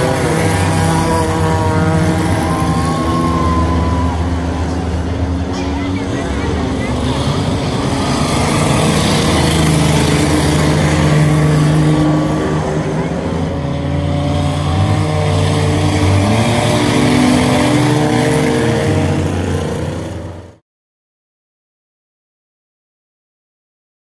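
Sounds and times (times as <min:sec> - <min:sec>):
racing car engines running hard: 0:00.0 - 0:20.6.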